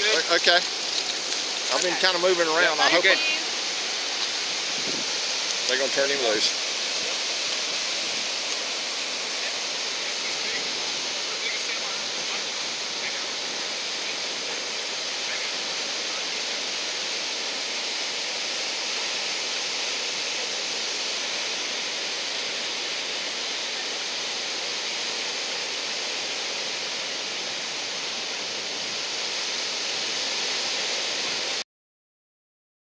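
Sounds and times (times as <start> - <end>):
ocean surf breaking: 0.0 - 31.6.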